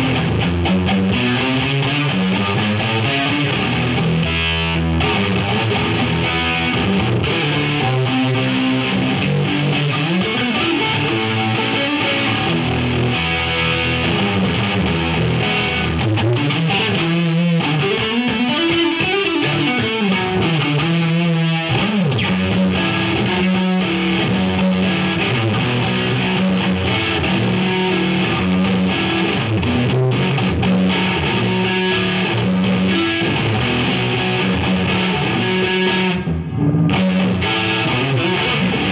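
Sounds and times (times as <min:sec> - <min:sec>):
electric guitar with string bends: 0:00.0 - 0:38.9.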